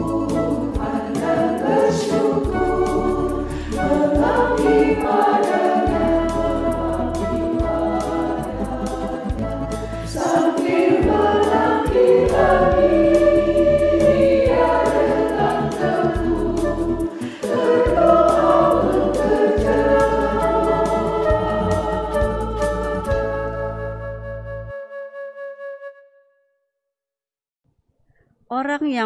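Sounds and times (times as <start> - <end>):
women's choir singing a hymn: 0.0 - 23.8
instrumental backing with bass: 0.0 - 24.9.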